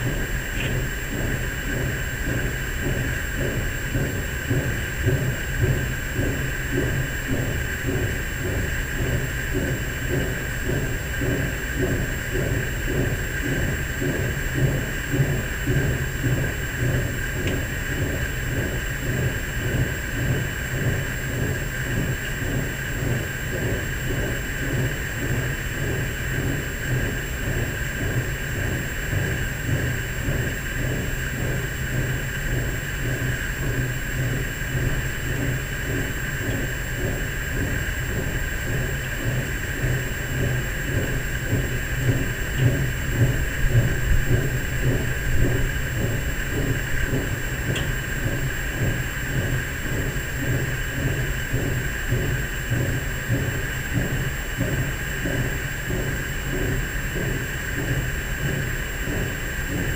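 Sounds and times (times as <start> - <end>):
hiss: 0.0 - 59.9
low throbbing rumbling drone: 0.0 - 59.9.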